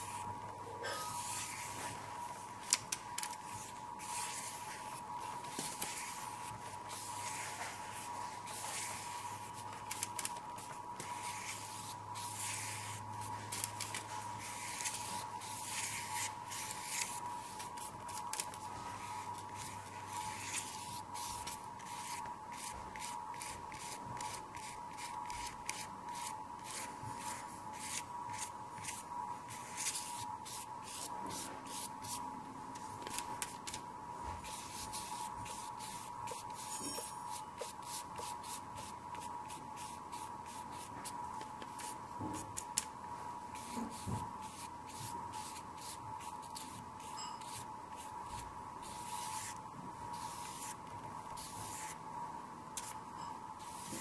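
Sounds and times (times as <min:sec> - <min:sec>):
steady high hum: 0:00.0 - 0:54.0
paintbrush swishing on paper: 0:01.1 - 0:02.7, 0:03.4 - 0:33.8, 0:34.4 - 0:42.8, 0:43.5 - 0:52.0, 0:53.6 - 0:54.0.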